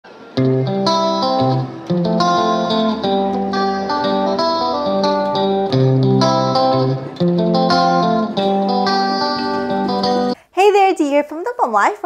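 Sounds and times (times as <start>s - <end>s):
plucked melody over chords: 0.4s - 10.4s.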